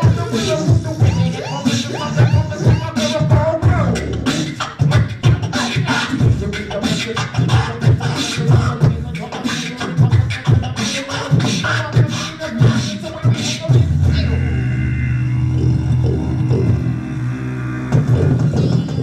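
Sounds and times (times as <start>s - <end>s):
beatboxing mouth percussion: 0.0s - 19.0s.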